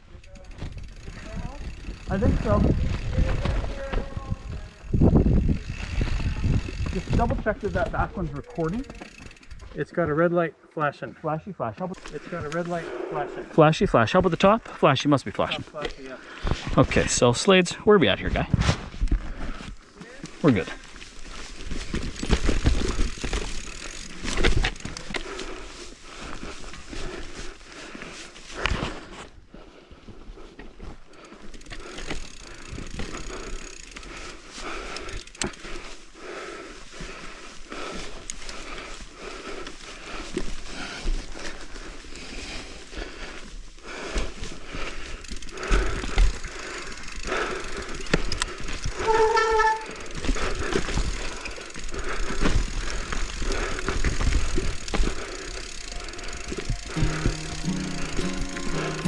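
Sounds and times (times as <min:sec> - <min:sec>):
bike rattling and clattering: 0:00.0 - 0:10.1, 0:18.8 - 0:29.1, 0:30.8 - 0:59.0
bike tyres rumbling over dirt: 0:00.3 - 0:10.2, 0:18.3 - 0:29.2, 0:30.8 - 0:58.1.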